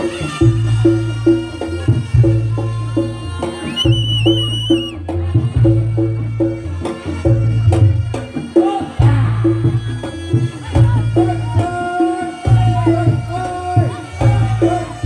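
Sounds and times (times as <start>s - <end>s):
percussion ensemble music: 0.0s - 15.0s.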